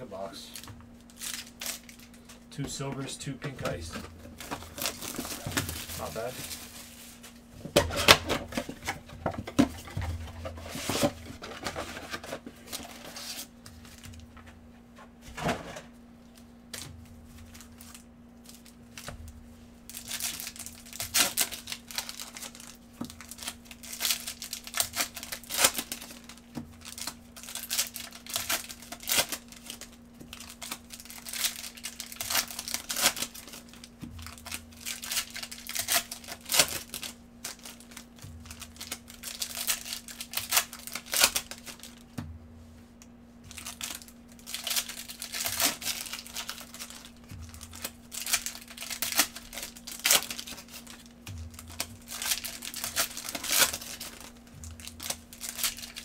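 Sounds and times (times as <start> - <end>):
plastic wrappers crinkling and tearing: 0.2 - 14.4, 16.2 - 42.1, 43.5 - 56.0.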